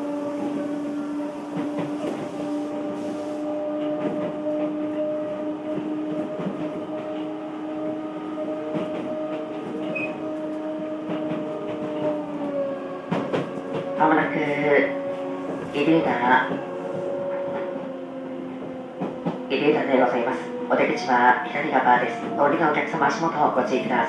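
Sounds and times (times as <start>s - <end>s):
train drive humming tone: 0.0s - 24.0s
wheels rumbling: 0.0s - 24.0s.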